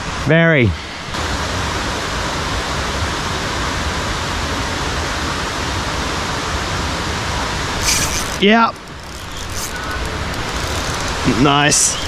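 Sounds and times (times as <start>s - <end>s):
falling water rushing: 0.0s - 12.0s.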